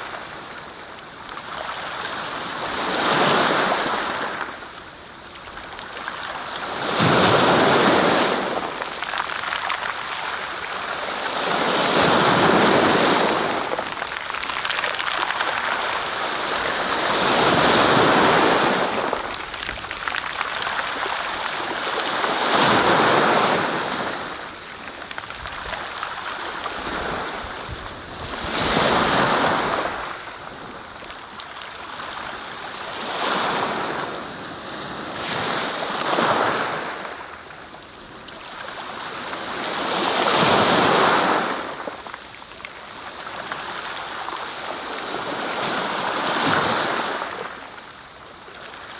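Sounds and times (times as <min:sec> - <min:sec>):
waves washing in and breaking: 0:00.0 - 0:48.9.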